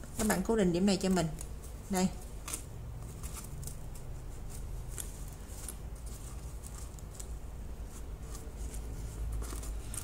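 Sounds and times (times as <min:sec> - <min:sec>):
hands rustling yarn: 0:00.0 - 0:10.0
low steady hum: 0:00.0 - 0:10.0.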